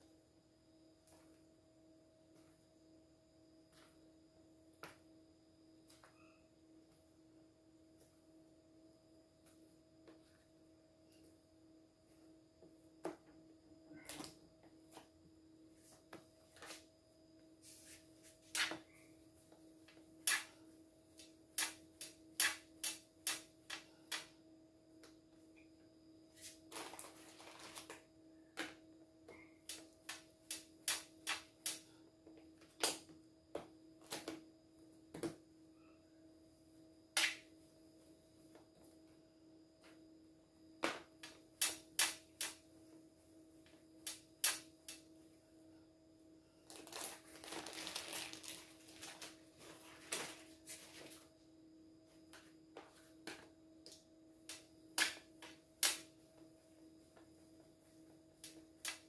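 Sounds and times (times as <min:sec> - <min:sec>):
faint hum: 0:00.0 - 0:59.0.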